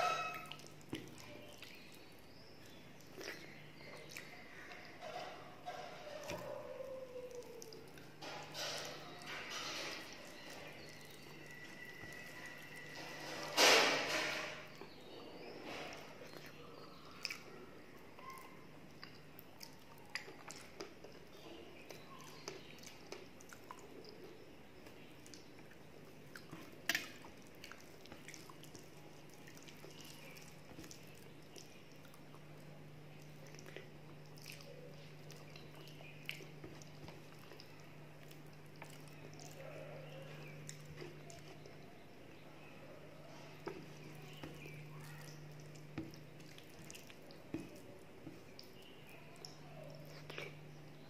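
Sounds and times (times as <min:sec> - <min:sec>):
person chewing: 0:00.0 - 0:13.4, 0:15.9 - 0:42.0, 0:43.3 - 0:51.0
faint low hum: 0:00.0 - 0:51.0.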